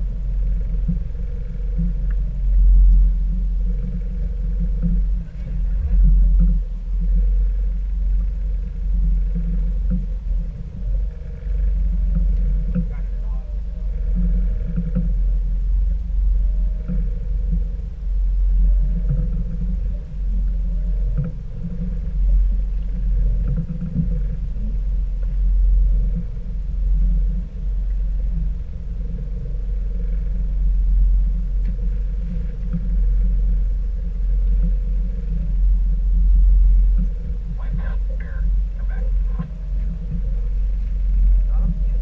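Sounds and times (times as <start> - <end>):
faint steady whine: 0.0 - 42.0
outboard motors rumbling: 0.0 - 42.0.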